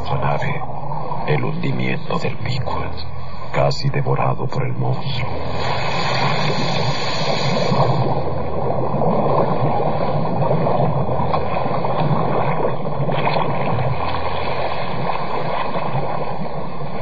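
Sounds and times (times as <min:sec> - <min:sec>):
churning sea water: 0:00.0 - 0:17.0.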